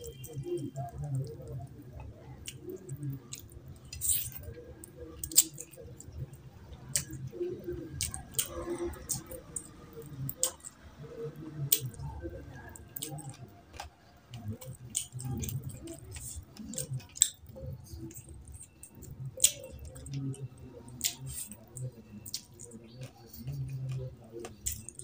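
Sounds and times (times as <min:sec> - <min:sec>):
wet chewing and lip smacks: 0:00.0 - 0:10.8, 0:11.6 - 0:25.0.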